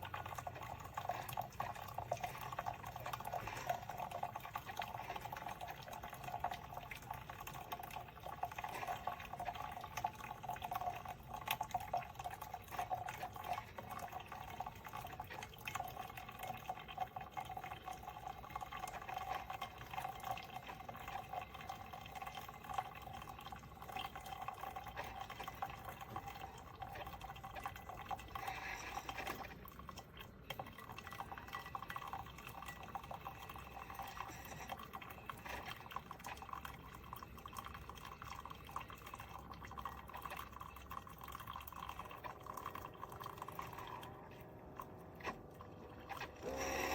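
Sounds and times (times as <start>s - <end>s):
coffee maker trickling and gurgling: 0.0s - 46.9s.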